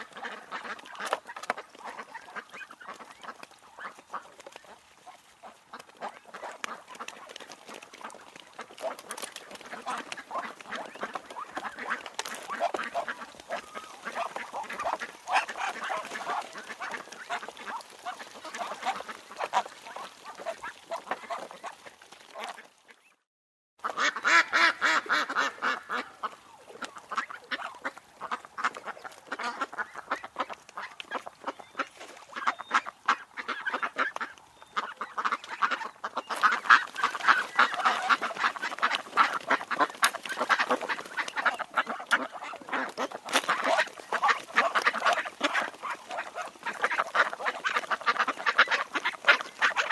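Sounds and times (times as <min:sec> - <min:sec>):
ducks quacking: 0:00.0 - 0:23.2, 0:23.8 - 0:49.9.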